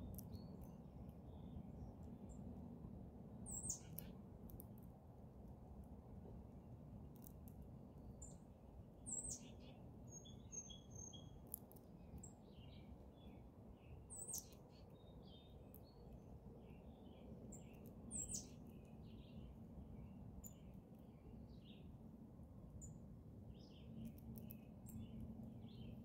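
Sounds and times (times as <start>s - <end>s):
small birds chirping: 0.0s - 2.7s, 3.4s - 5.0s, 7.1s - 26.0s
low background rumble: 0.0s - 26.0s.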